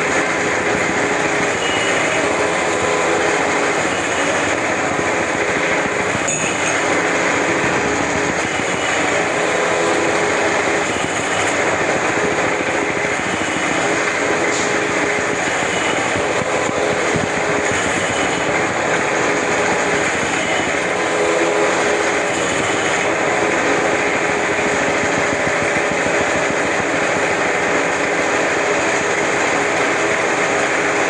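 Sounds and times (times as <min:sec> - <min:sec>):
lathe cutting threads on pipe: 0:00.0 - 0:31.0.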